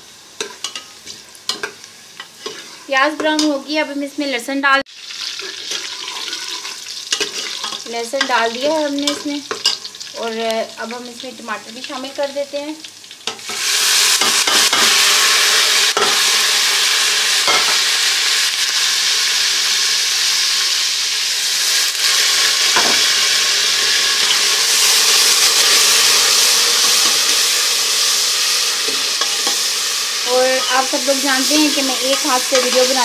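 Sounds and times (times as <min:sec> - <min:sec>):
food sizzling in hot fat: 0:00.0 - 0:33.0.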